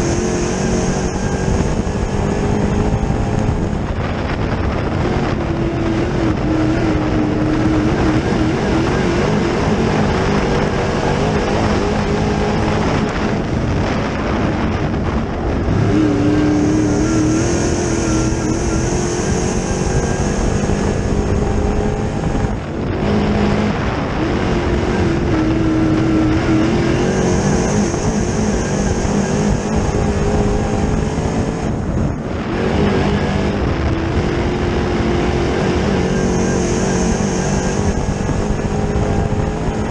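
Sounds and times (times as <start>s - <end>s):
race car engine: 0.0s - 39.9s
roar of air and track noise: 0.0s - 39.9s.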